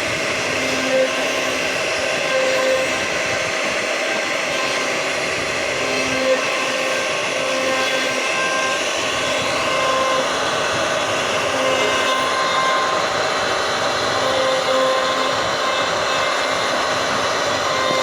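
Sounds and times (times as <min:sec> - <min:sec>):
router spindle cutting wood: 0:00.0 - 0:18.0.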